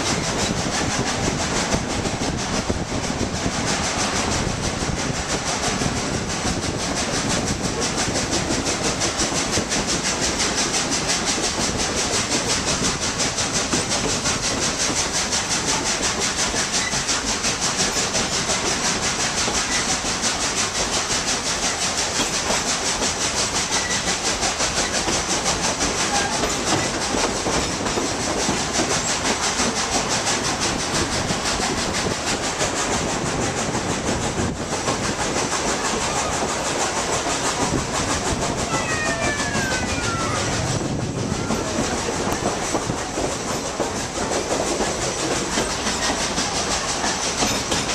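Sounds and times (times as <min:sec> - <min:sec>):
train rumble: 0:00.0 - 0:47.9
wheels clattering on rails: 0:00.0 - 0:47.9.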